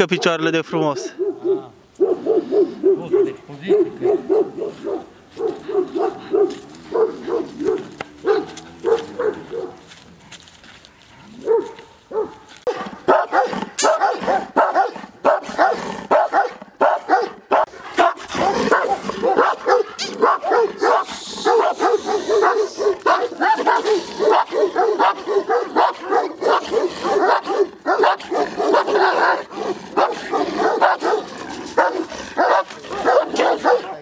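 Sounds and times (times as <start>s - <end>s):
dogs barking: 0.0s - 10.0s, 11.2s - 34.0s.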